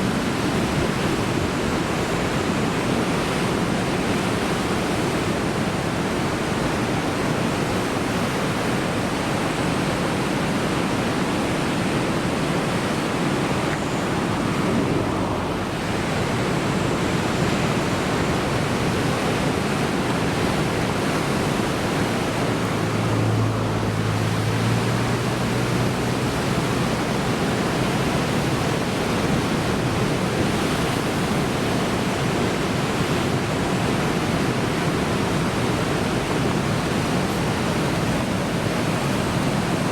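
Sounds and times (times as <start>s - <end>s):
surf breaking on shore: 0.0s - 39.9s.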